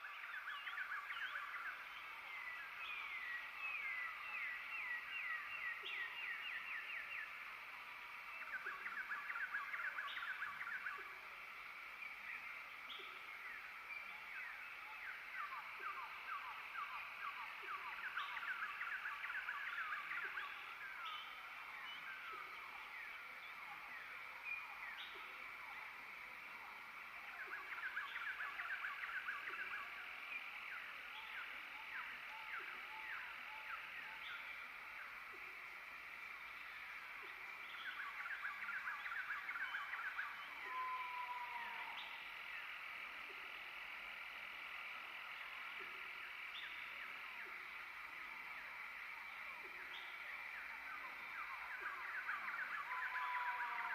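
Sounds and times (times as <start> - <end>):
birds whistling downward notes: 0.0 - 53.9
steady insect buzz: 0.0 - 53.9.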